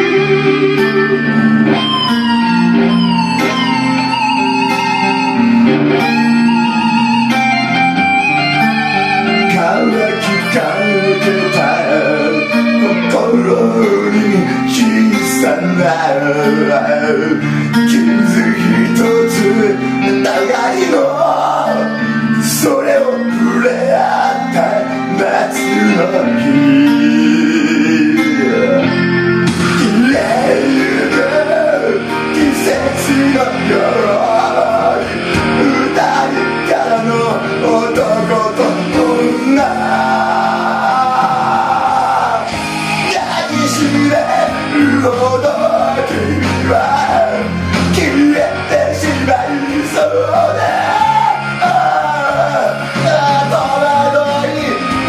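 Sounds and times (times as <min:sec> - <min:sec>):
backing track music: 0:00.0 - 0:55.0
man singing into microphone: 0:08.6 - 0:55.0.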